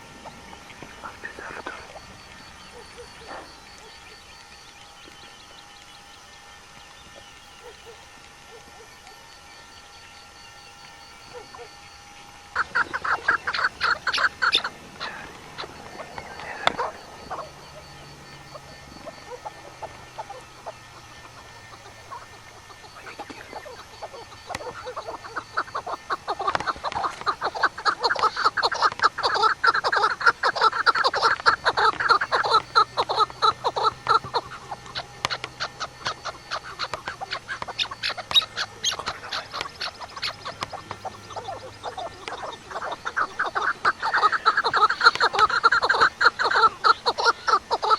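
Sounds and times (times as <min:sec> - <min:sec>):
bird calling harshly: 0:00.0 - 0:47.9.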